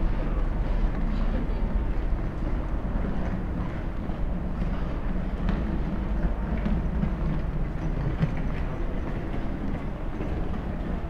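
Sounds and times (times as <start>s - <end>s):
low city street rumble: 0.0s - 11.0s.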